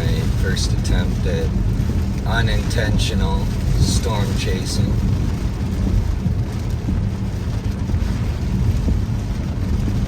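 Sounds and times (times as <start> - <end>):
rain hitting truck body: 0.0 - 10.0
truck engine rumble: 0.0 - 10.0.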